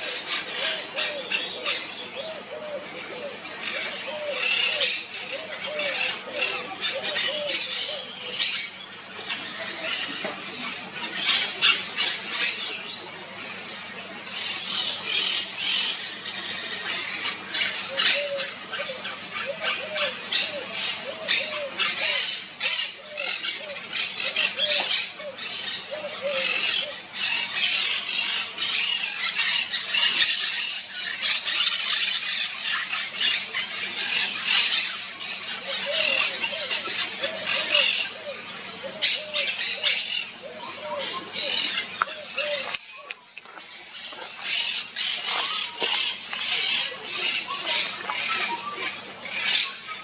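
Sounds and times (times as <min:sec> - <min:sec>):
parakeets squawking: 0:00.0 - 0:12.9, 0:14.3 - 0:50.0.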